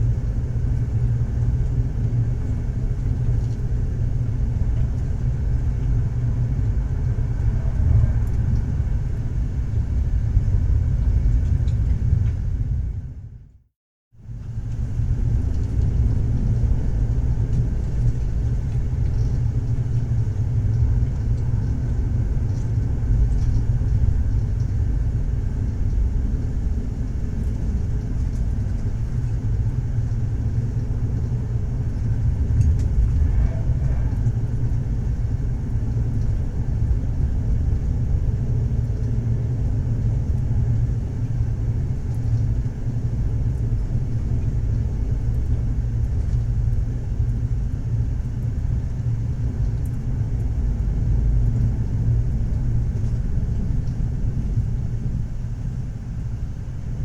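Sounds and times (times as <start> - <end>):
train rumbling on rails: 0.0 - 13.5, 14.2 - 57.0.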